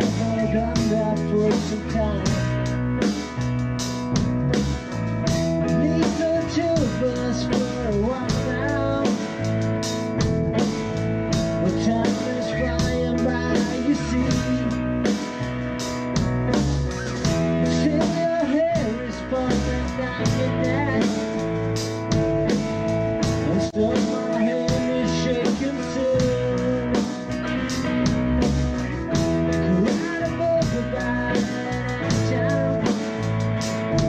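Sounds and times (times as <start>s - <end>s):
blues-rock band playing: 0.0s - 34.0s
lead guitar with bent notes: 0.0s - 34.0s.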